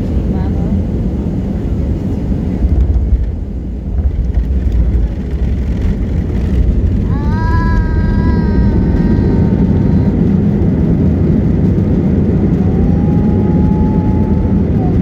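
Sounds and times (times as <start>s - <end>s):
aircraft engines and airflow rumbling: 0.0s - 15.0s.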